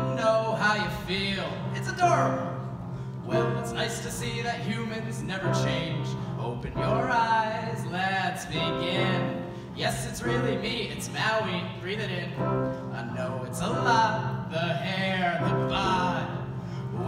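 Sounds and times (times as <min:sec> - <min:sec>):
man singing through microphone: 0:00.0 - 0:02.5, 0:03.3 - 0:16.4
digital piano accompaniment: 0:00.0 - 0:17.0.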